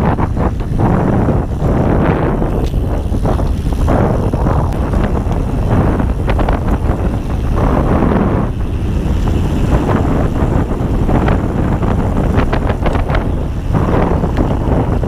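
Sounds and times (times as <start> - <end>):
bike clicks and rattles: 0.0 - 15.0
bike tyres rolling on dirt: 0.0 - 15.0
wind rumbling on microphone: 0.0 - 15.0.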